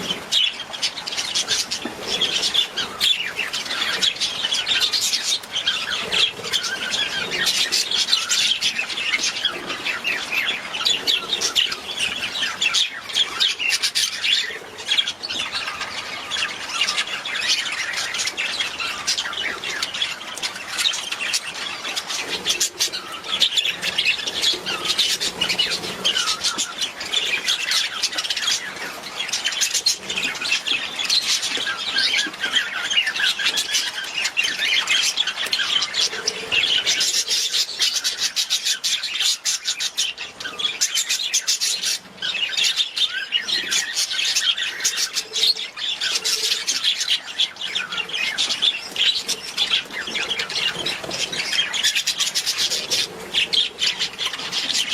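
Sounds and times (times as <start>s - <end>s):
budgerigars chattering and warbling: 0.0s - 54.9s.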